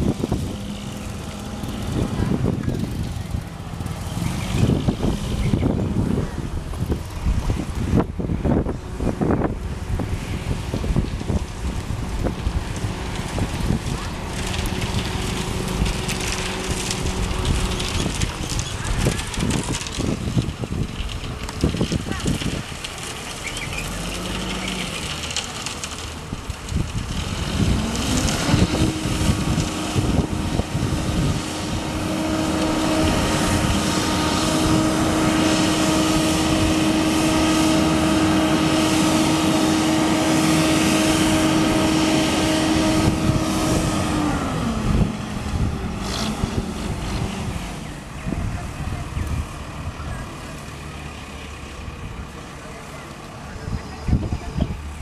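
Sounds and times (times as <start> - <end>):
diesel engine revving: 0.0 - 55.0
concrete pouring down chute: 9.7 - 55.0.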